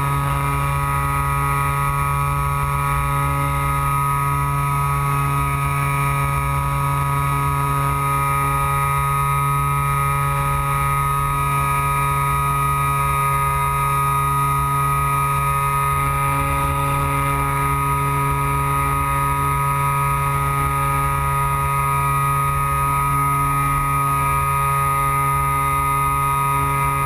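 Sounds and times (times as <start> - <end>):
electric motor and propeller whine: 0.0 - 27.0.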